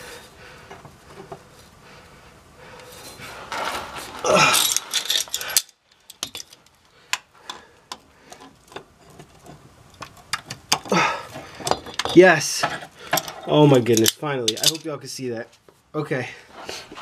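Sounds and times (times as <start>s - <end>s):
rustling: 0.0s - 15.8s.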